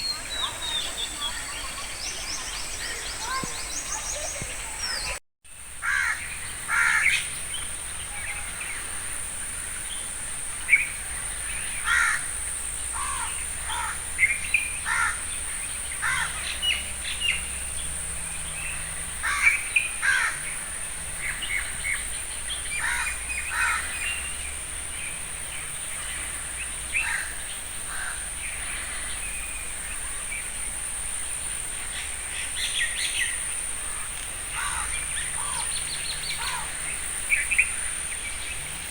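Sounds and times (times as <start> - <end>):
birds calling harshly: 0.0 - 5.2, 5.8 - 38.9
steady high-pitched hiss: 0.0 - 38.9.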